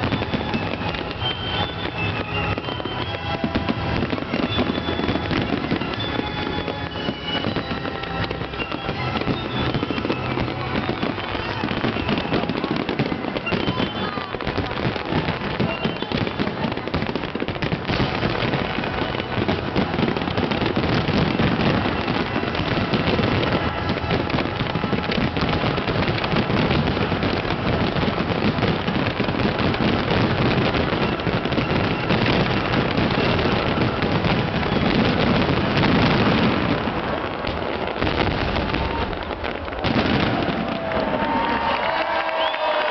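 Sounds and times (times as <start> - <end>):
fireworks bursts and crackling: 0.0 - 42.9.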